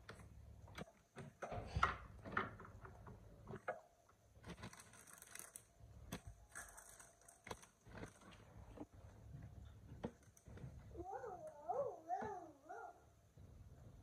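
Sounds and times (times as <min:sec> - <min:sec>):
soft handling clicks and rustles: 0:00.0 - 0:11.6.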